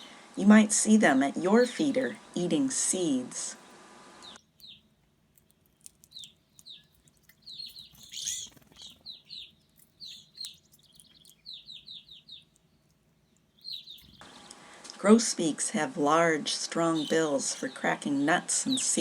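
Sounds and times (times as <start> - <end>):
small songbird chirping: 0.8 - 14.7, 16.5 - 19.0.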